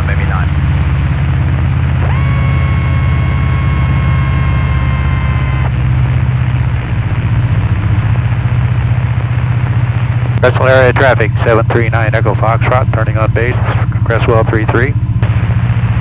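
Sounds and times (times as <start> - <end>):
airplane engine and propeller droning: 0.0 - 16.0.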